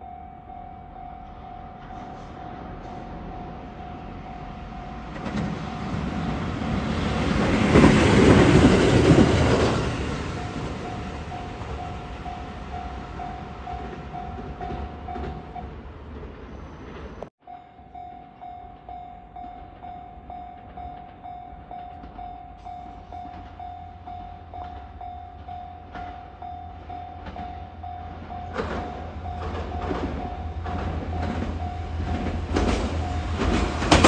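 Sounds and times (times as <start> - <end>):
train wheels rumbling and clattering: 1.2 - 17.3, 18.4 - 34.0.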